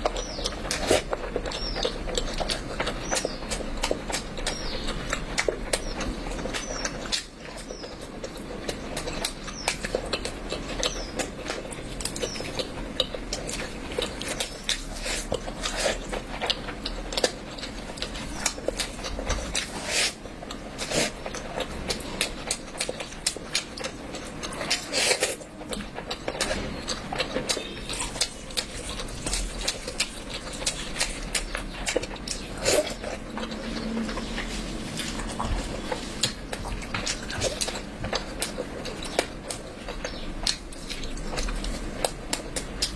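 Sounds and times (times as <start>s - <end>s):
person chewing with mouth clicks: 0.0s - 42.9s.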